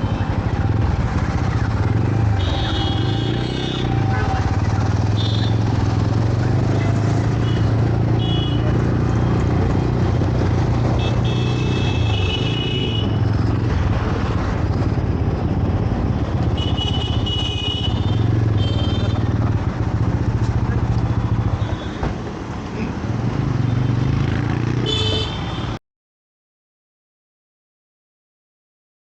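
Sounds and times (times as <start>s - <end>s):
motorcycle engine humming: 0.0s - 25.8s
road and wind noise: 0.0s - 25.8s.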